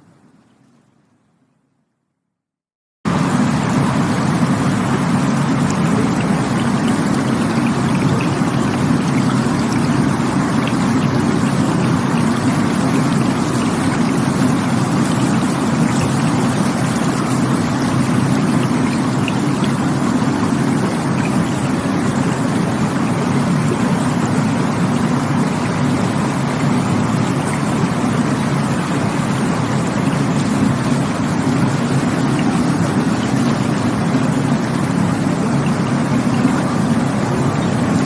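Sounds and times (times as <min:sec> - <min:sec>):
rushing water: 0:03.1 - 0:38.0.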